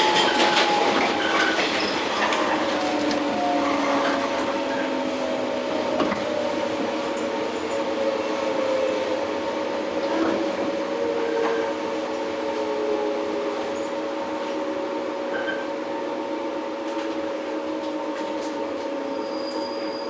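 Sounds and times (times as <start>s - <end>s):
rail rumble: 0.0s - 20.0s.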